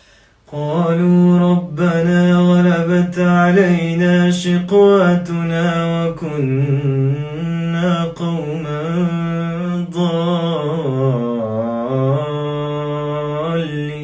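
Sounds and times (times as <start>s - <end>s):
man chanting melodically: 0.5s - 14.0s.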